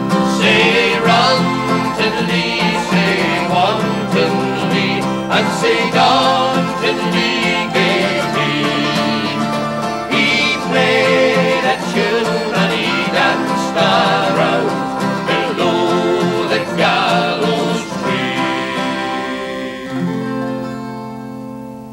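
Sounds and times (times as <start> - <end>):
banjo: 0.0 - 21.3
folk band playing a ballad: 0.0 - 21.9
plucked guitar: 0.0 - 21.9.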